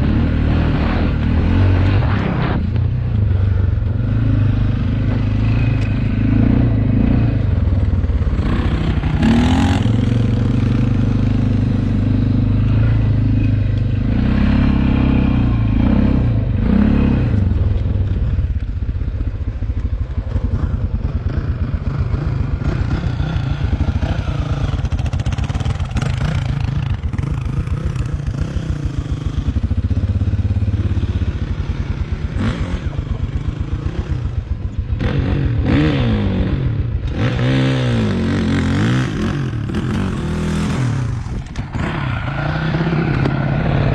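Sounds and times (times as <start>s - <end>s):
motocross bike engine revving: 0.0s - 18.4s, 20.3s - 43.9s.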